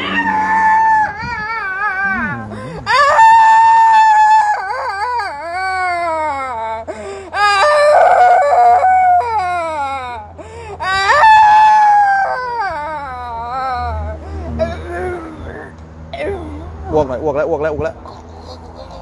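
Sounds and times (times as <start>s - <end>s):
woman wailing: 0.0s - 16.9s.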